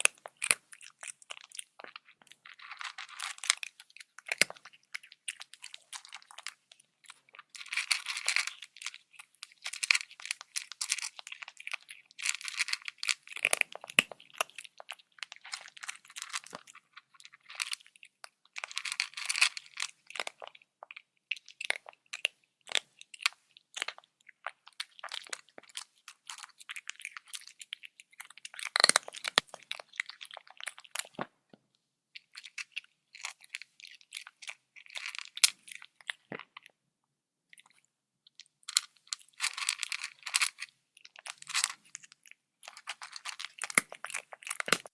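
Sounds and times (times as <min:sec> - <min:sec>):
cat crunching food: 0:00.0 - 0:31.4, 0:32.2 - 0:36.8, 0:37.5 - 0:44.9.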